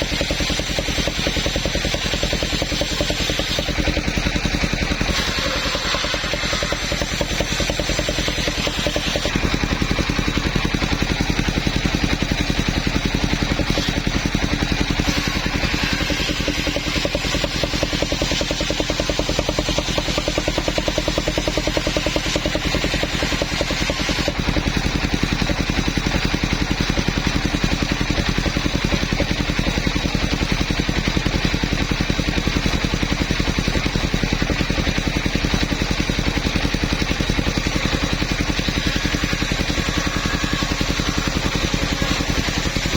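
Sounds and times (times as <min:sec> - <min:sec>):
sawmill engine running: 0:00.0 - 0:42.9.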